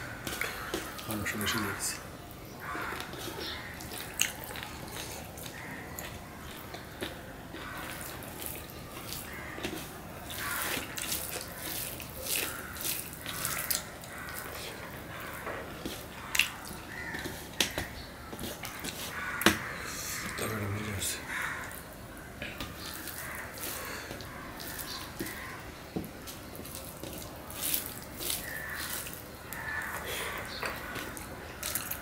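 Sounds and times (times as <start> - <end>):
wet chewing and smacking: 0.1 - 20.4, 21.2 - 32.0
fingers kneading rice on steel plate: 2.6 - 20.5, 21.4 - 32.0.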